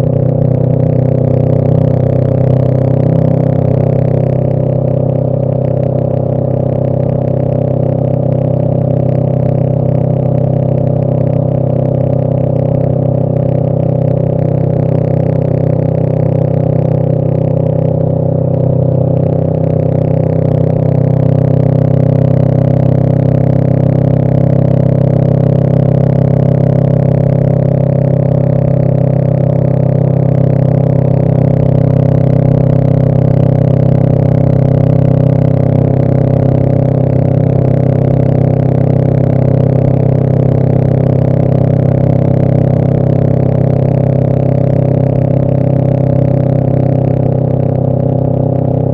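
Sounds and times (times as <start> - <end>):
motorcycle engine running steadily: 0.0 - 48.9.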